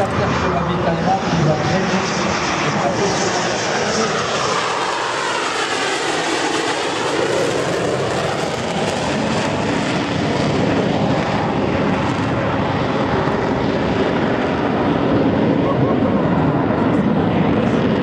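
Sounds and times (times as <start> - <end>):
jet roar: 0.0 - 18.0.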